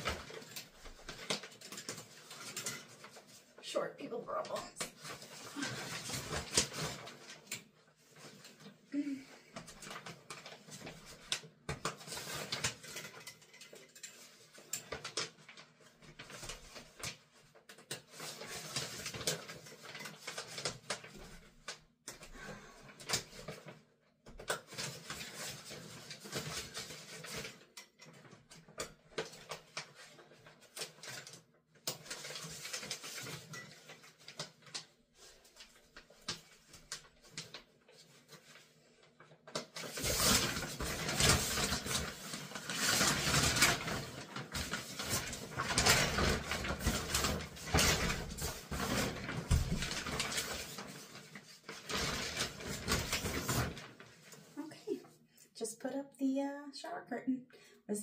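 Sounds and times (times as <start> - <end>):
shower curtain rustling: 0.0 - 23.8, 24.6 - 54.6.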